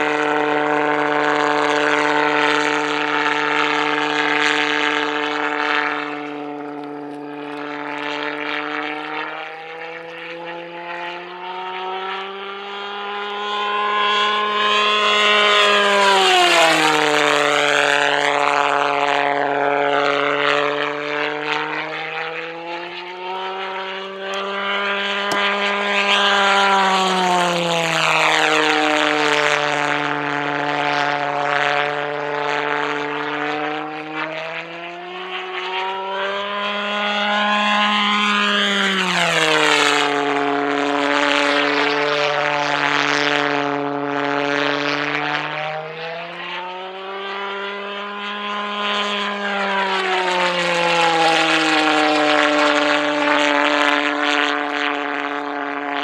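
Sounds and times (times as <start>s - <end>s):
pulsejet engine buzzing drone: 0.0s - 56.0s.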